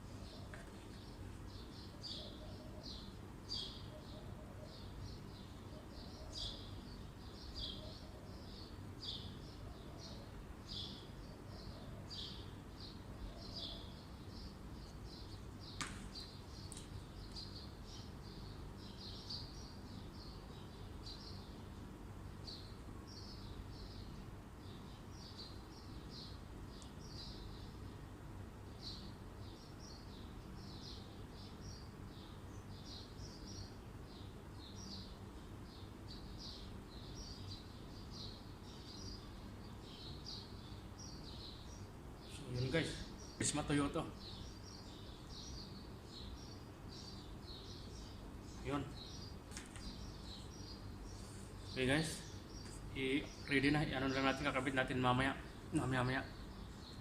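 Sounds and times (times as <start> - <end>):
low steady background noise: 0.0 - 57.0
small birds chirping: 0.0 - 57.0.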